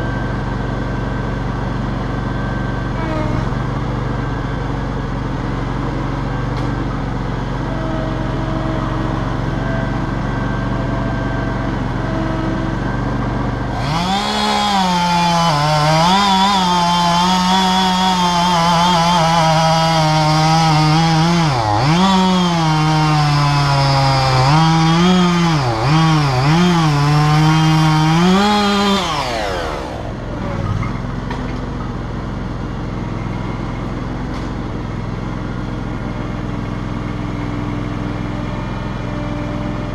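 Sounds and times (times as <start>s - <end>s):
chainsaw cutting wood: 0.0s - 36.6s
engine running: 0.0s - 39.9s.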